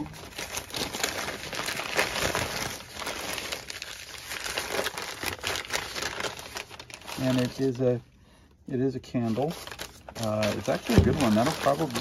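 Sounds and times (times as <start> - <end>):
newspaper crumpling and rustling: 0.0 - 8.0, 9.1 - 12.0.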